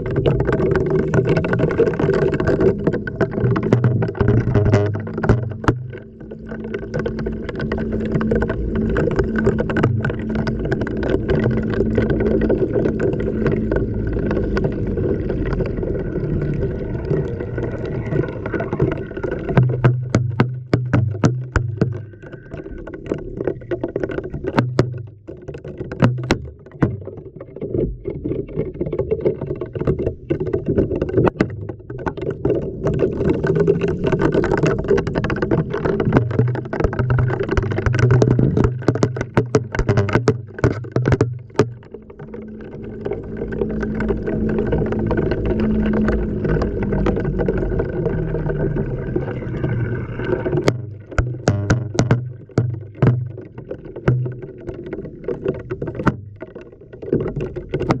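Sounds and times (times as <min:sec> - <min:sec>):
low motor hum: 0:00.0 - 0:25.3, 0:30.1 - 0:58.0
water sloshing in drum: 0:00.0 - 0:58.0.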